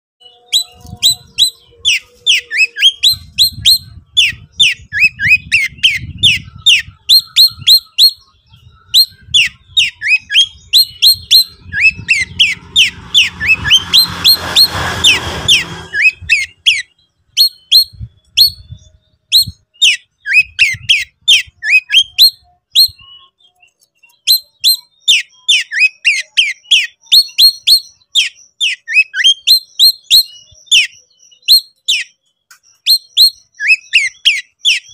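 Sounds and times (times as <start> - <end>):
bird chirps and whistles: 0.2 - 34.9.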